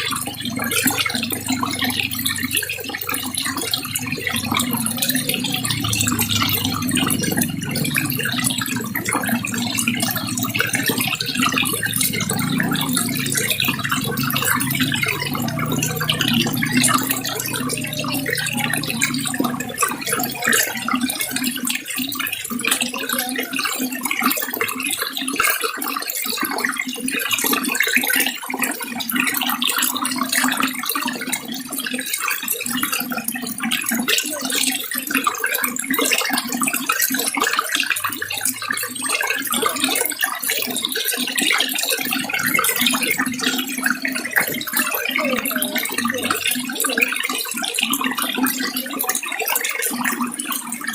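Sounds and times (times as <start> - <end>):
water running and splashing: 0.0 - 50.9.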